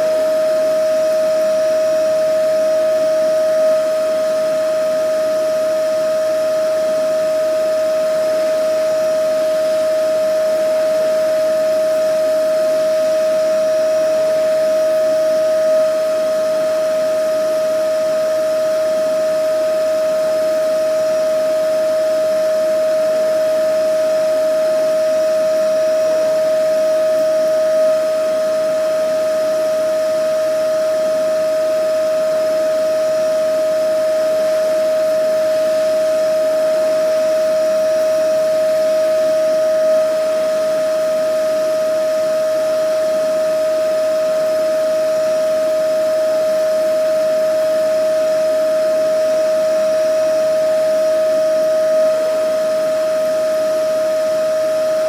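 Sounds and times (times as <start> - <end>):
vacuum cleaner motor: 3.8 - 55.0.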